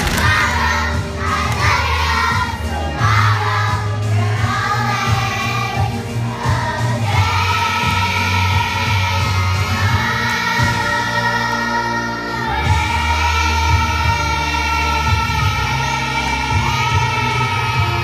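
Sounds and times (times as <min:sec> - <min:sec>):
girls singing together: 0:00.0 - 0:18.0
music accompaniment with bass line: 0:00.0 - 0:18.0.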